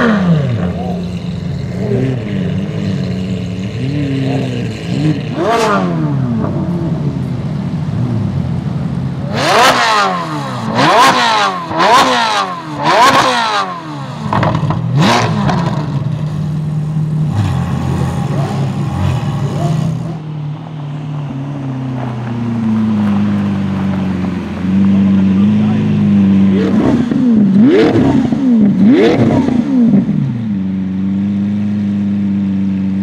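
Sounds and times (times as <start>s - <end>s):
car pulling away: 0.0s - 33.0s
sports car engine revving: 0.0s - 33.0s.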